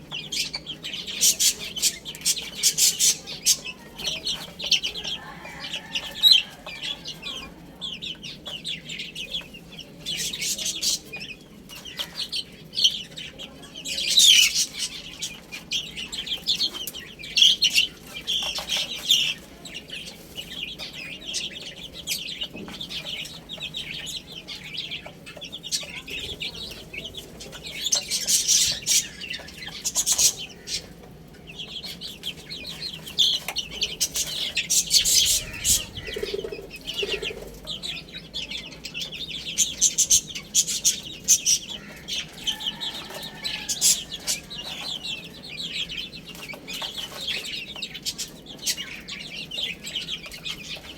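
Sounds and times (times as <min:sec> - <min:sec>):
baby chicks chirping: 0:00.0 - 0:50.9.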